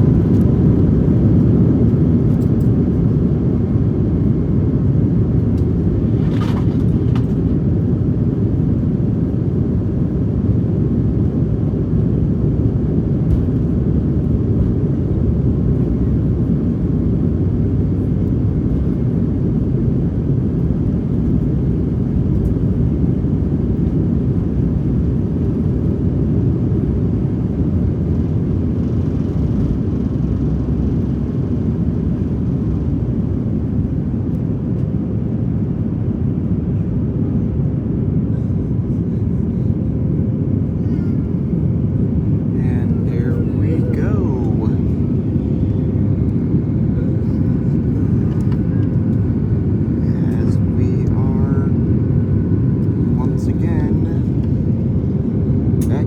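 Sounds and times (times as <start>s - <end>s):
airflow over fuselage: 0.0s - 56.0s
airliner engine drone: 0.0s - 56.0s.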